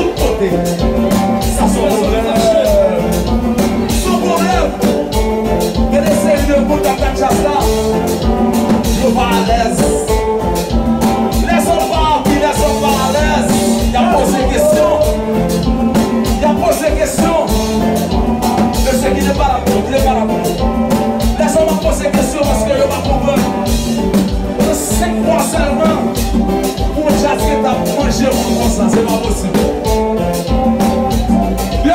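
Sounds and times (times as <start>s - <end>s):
person singing: 0.0s - 5.0s, 5.8s - 8.2s, 8.8s - 10.3s, 11.3s - 17.9s, 18.7s - 30.0s
band music with steady beat: 0.0s - 31.9s.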